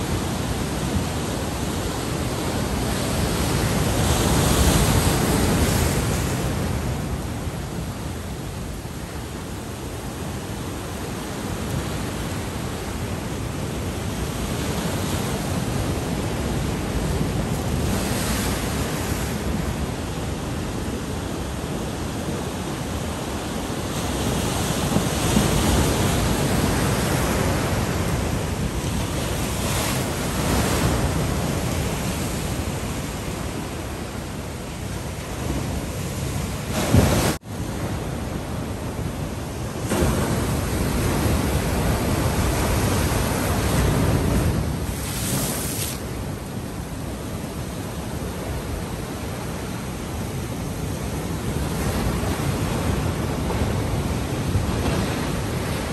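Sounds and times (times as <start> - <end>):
waves breaking: 0.0 - 55.9.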